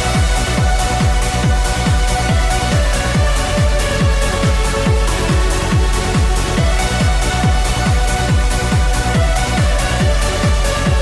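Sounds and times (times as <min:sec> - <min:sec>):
held synth line: 0:00.0 - 0:11.0
kick drum: 0:00.0 - 0:11.0
off-beat hi-hats: 0:00.0 - 0:11.0.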